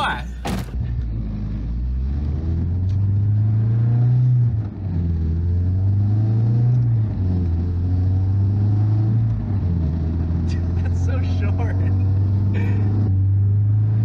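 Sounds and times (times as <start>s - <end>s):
car engine revving inside cabin: 0.8s - 14.0s.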